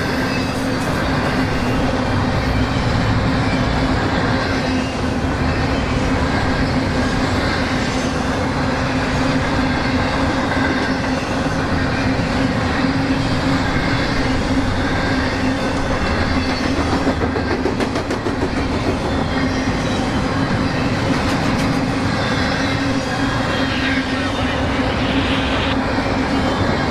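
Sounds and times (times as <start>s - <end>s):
freight train rumbling past: 0.0s - 26.9s.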